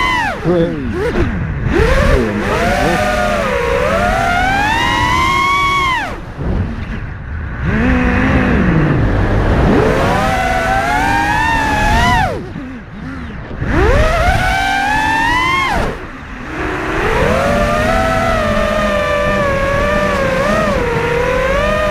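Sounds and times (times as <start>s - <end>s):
quadcopter motors whining: 0.0s - 21.9s.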